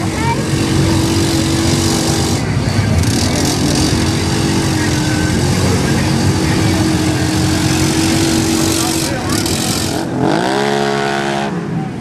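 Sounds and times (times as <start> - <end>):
atv engine running hard: 0.0 - 12.0.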